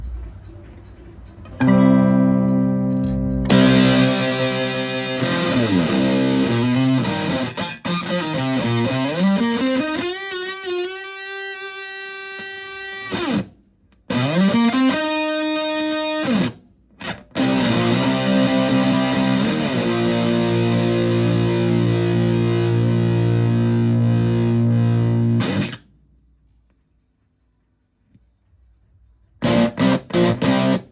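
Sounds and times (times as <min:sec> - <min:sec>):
fuzzed electric guitar: 0:01.4 - 0:25.8, 0:29.4 - 0:30.9.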